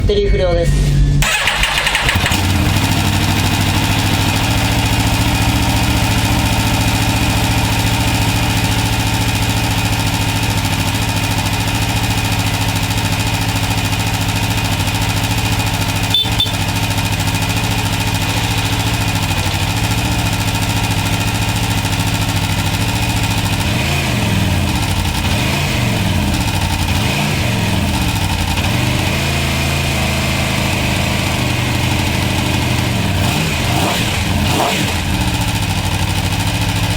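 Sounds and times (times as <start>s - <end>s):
motorcycle engine idling: 1.2s - 36.9s.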